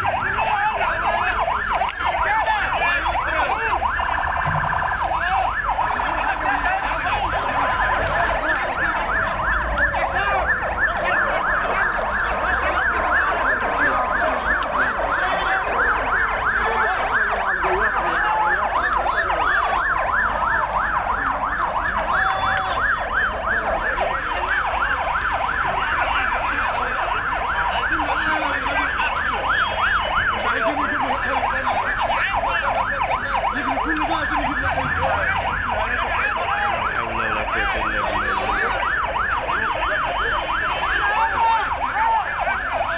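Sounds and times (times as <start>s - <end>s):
emergency sirens yelping: 0.0s - 42.9s
low rumble of vehicles: 0.0s - 42.9s.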